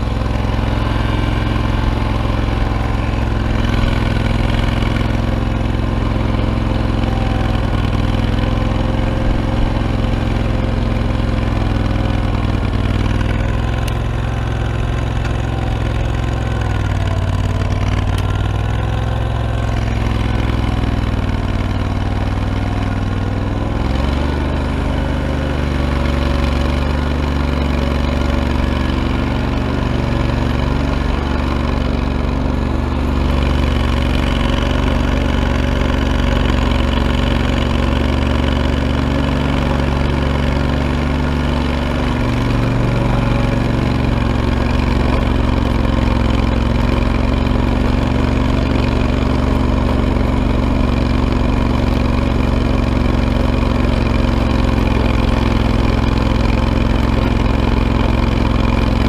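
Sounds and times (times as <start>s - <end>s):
plow blade pushing snow: 0.0s - 59.0s
tractor engine running: 0.0s - 59.0s.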